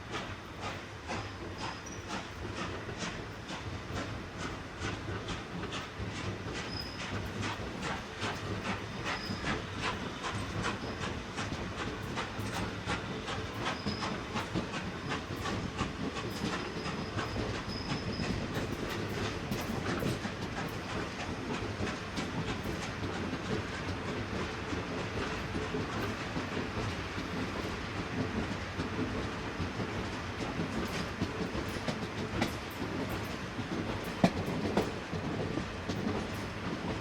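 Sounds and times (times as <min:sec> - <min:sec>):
train running on track: 0:00.0 - 0:37.0.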